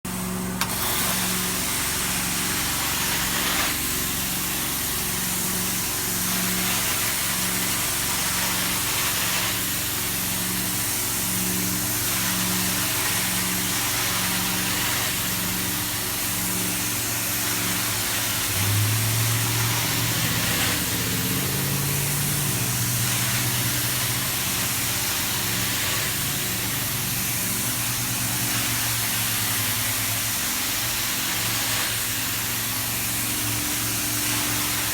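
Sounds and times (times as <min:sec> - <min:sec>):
motor hum: 0:00.1 - 0:34.9
hiss of spray and suction: 0:00.6 - 0:34.9.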